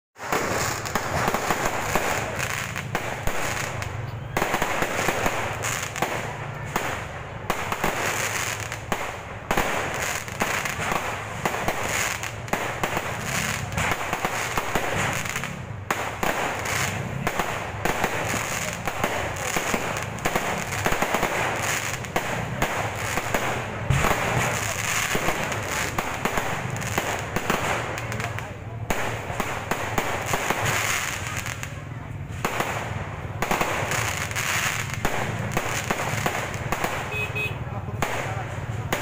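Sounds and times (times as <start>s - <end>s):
fireworks popping and crackling: 0.2s - 39.0s.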